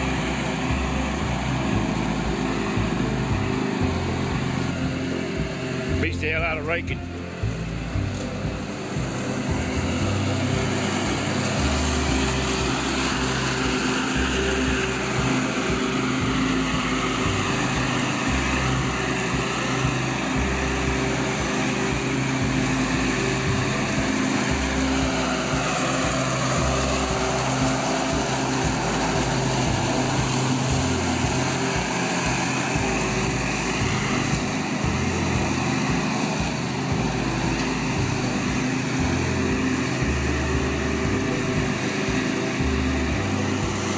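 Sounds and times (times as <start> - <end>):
mower engine running: 0.0 - 43.9.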